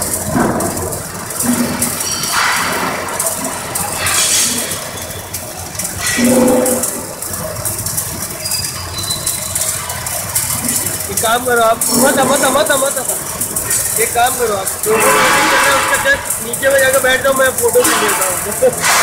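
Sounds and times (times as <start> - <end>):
welding arc crackling and sputtering: 0.0 - 19.0.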